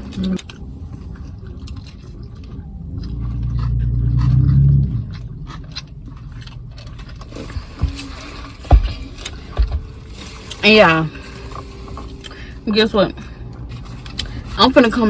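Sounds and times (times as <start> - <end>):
chewing sandwich: 0.0 - 12.6
low rumble: 0.0 - 15.0.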